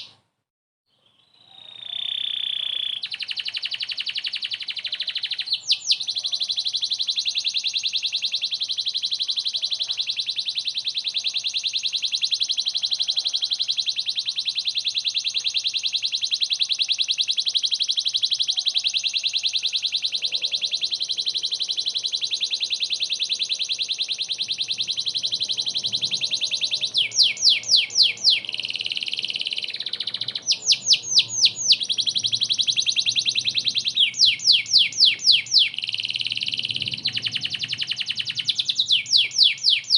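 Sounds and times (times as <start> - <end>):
canary singing: 0.0 - 0.2, 0.9 - 39.9.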